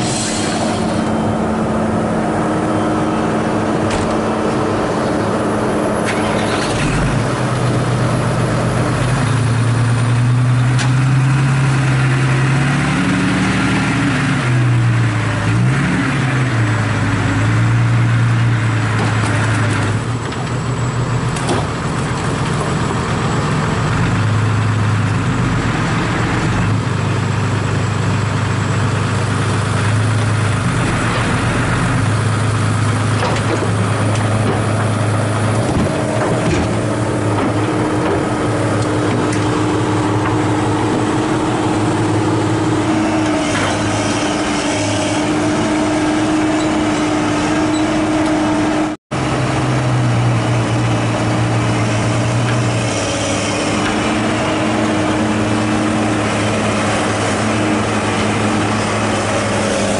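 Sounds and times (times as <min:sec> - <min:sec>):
diesel truck engine running and revving: 0:00.0 - 0:59.9.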